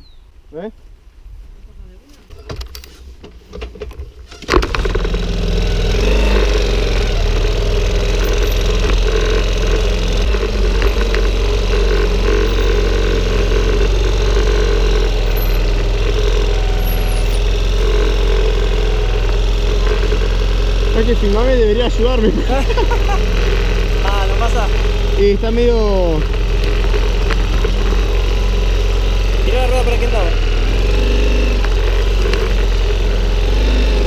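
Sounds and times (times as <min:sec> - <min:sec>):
small motorcycle engine running: 0:04.5 - 0:34.0.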